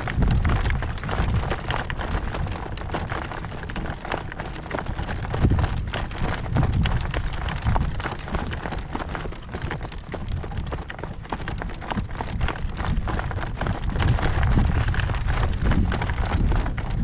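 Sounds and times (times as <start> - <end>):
horse hooves clopping at a trot: 0.0 - 17.0
wind buffeting microphone: 0.0 - 17.0.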